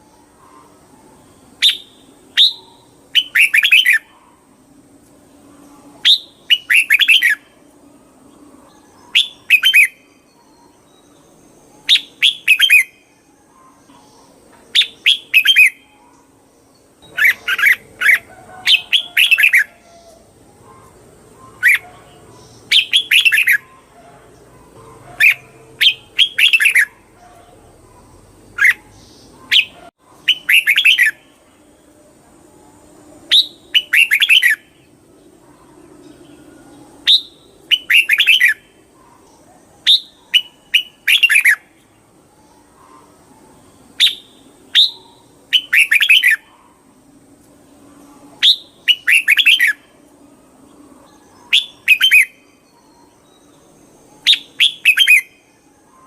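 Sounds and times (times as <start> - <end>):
bird singing warbled phrases: 0.0 - 56.0.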